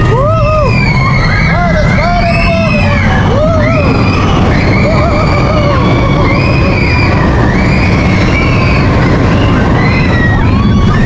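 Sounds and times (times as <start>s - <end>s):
roller coaster rumbling on track: 0.0s - 11.0s
roller coaster squeals: 0.0s - 11.0s.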